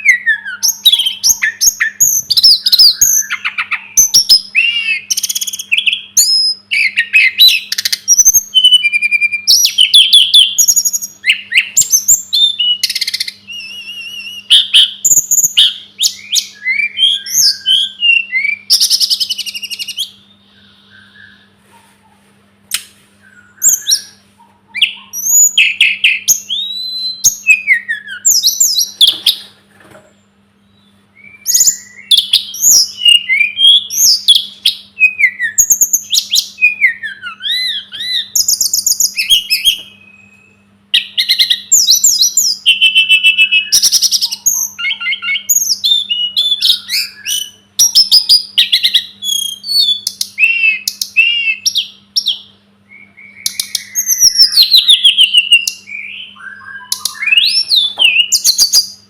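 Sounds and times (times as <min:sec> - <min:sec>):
songbird singing trills: 0:00.0 - 0:29.5, 0:30.2 - 0:59.0.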